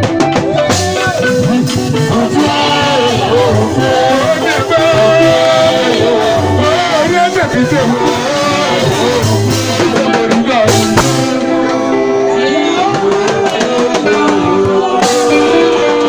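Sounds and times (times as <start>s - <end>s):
drums: 0.0s - 16.0s
live band music: 0.0s - 16.0s
person singing into microphone: 0.1s - 16.0s.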